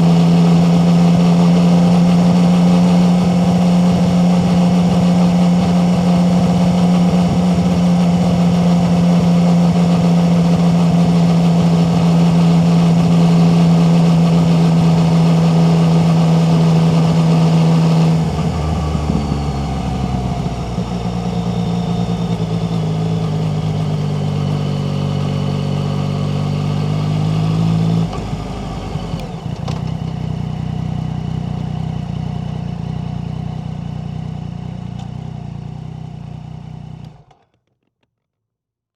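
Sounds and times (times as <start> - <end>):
motorcycle engine running: 0.0 - 37.4.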